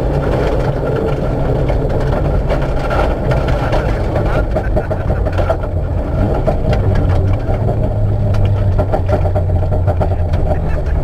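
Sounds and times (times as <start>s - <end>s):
car engine running: 0.0s - 11.0s
small clicks and rattles: 0.0s - 11.0s.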